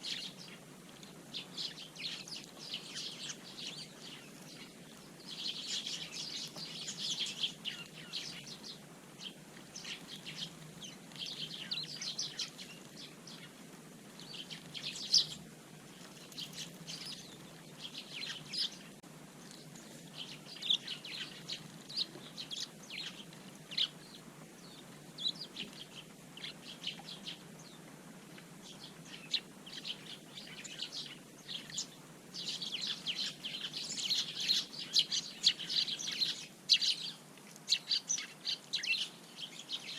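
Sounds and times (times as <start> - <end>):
sparrows chirping: 0.0 - 27.9, 28.6 - 39.9.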